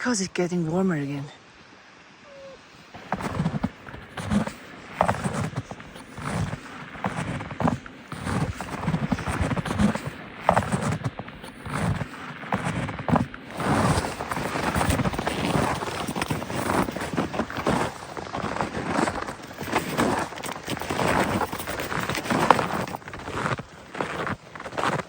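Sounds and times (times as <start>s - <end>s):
footsteps crunching through snow: 3.0s - 25.0s.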